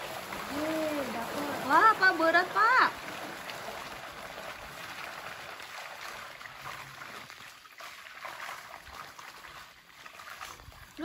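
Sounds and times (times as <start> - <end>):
pond water splashing and trickling: 0.0 - 11.0.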